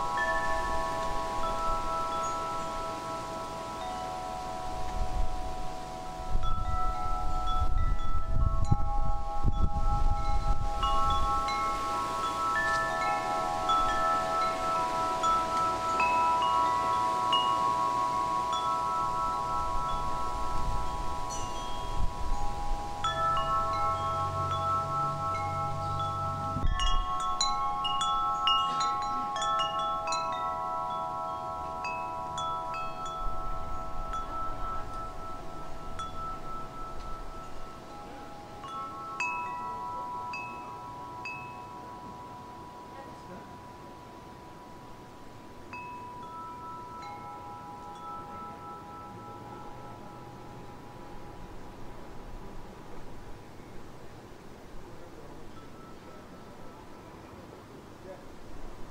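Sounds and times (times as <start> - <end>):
low rumble of wind: 0.0 - 58.9
wind chimes ringing: 0.0 - 58.9.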